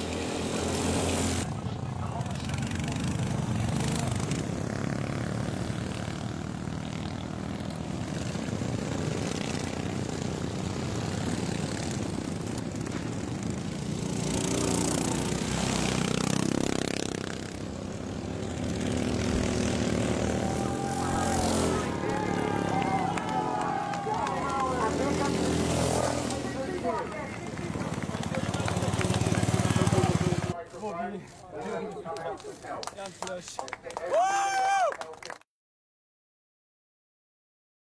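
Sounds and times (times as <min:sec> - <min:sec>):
lawnmower engines racing: 0:00.0 - 0:34.4.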